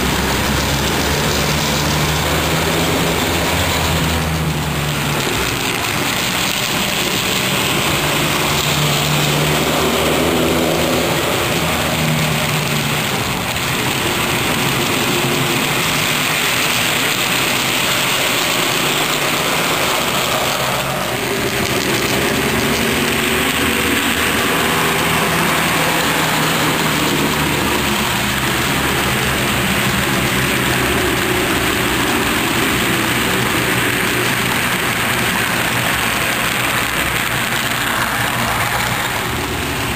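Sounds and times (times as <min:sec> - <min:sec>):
low diesel engine drone: 0:00.0 - 0:39.9
model train cars rolling: 0:00.0 - 0:39.9.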